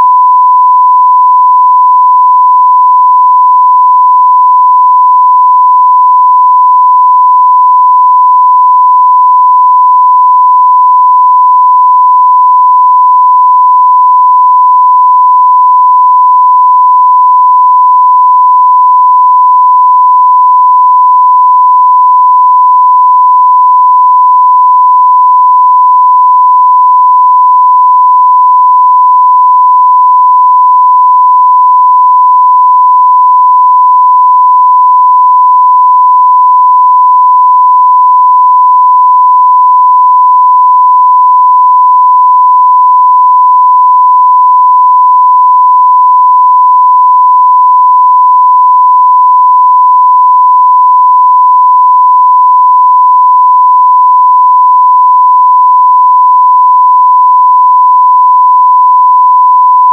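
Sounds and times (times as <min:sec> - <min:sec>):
sine wave test tone: 0:00.0 - 0:59.9.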